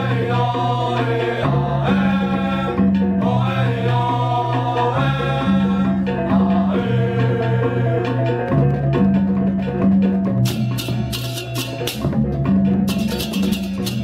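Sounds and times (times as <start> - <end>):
background music with bass: 0.0 - 14.0
fast high rattling rhythm: 0.0 - 14.0.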